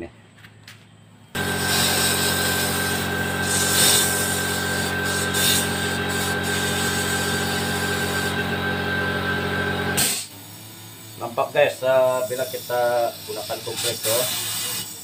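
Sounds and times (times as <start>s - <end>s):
compressed air hissing: 1.4s - 15.0s.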